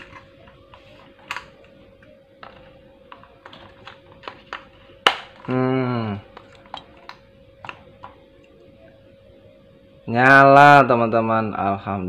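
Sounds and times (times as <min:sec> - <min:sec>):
faint steady tone: 0:00.0 - 0:11.2.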